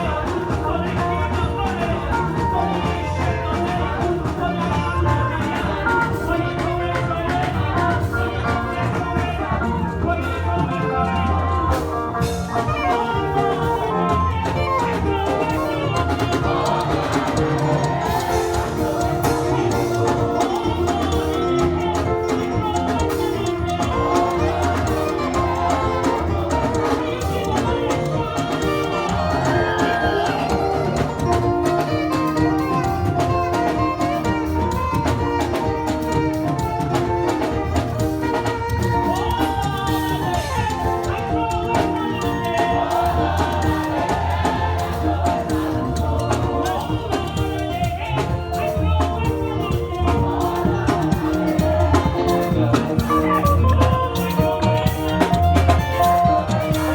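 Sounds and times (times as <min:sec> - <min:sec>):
band playing praise music: 0:00.0 - 0:56.9
person singing: 0:00.0 - 0:56.9.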